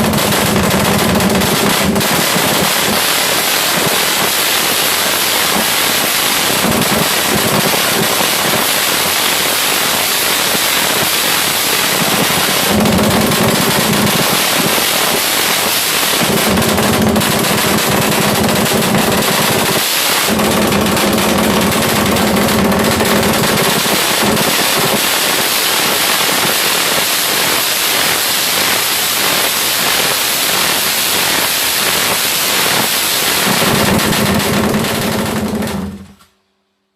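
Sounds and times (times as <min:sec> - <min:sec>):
motorcycle engine popping exhaust: 0:00.0 - 0:36.3.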